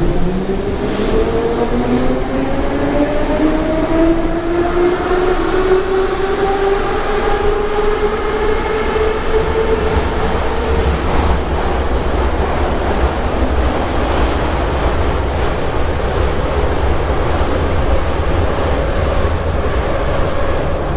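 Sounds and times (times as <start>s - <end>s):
wheels rumbling on rails: 0.0s - 20.9s.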